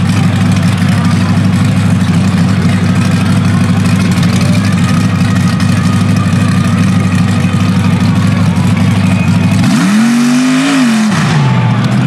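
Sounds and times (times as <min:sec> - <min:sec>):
truck engine running deep: 0:00.0 - 0:12.0.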